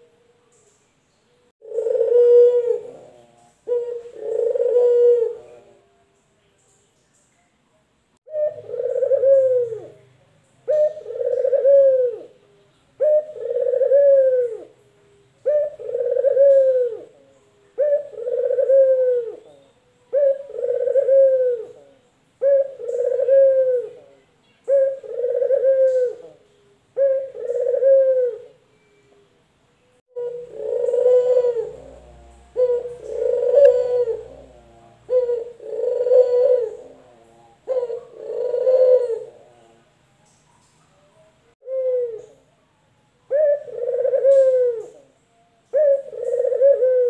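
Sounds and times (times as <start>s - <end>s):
dove cooing: 1.6s - 5.9s, 8.2s - 28.9s, 30.1s - 39.9s, 40.6s - 42.5s, 43.3s - 47.0s.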